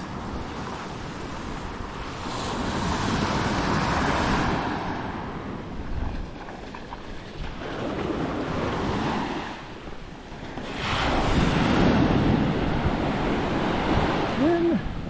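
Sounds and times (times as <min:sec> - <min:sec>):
wind buffeting microphone: 0:00.0 - 0:15.0
surf breaking on beach: 0:02.2 - 0:09.7, 0:10.4 - 0:15.0.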